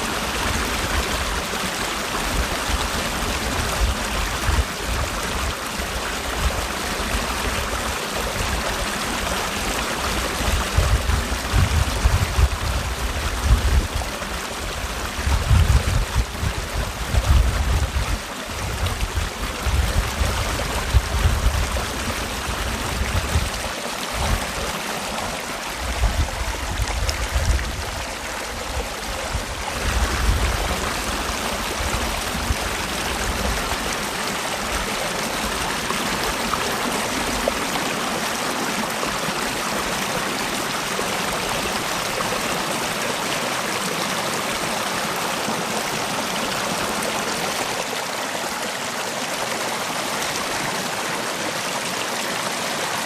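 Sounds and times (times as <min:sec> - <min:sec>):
stream rushing water: 0:00.0 - 0:53.0.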